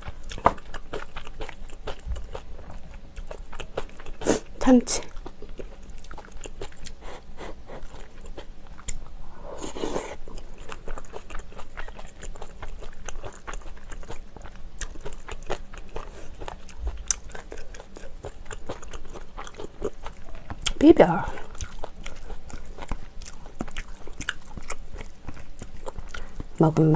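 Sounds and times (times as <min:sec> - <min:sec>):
chewing and crunching food: 0:00.0 - 0:26.9.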